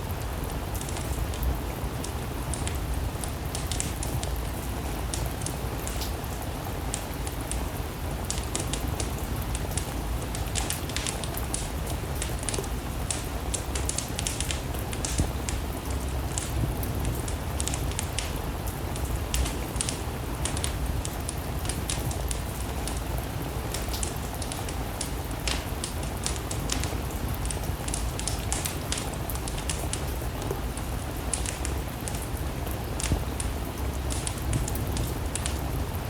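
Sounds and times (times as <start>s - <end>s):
steady rain: 0.0s - 36.0s
wood fire crackling and popping: 0.0s - 36.0s.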